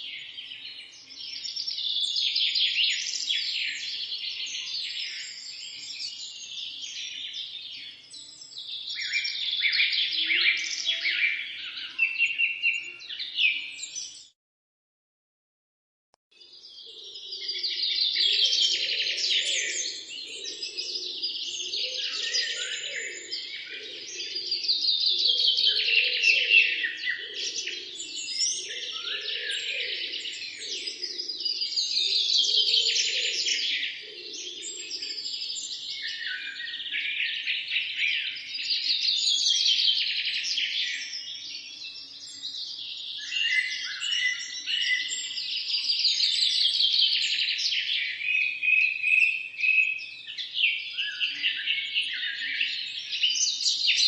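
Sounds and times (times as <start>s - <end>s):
birds chirping and trilling: 0.0s - 14.4s, 16.4s - 54.0s.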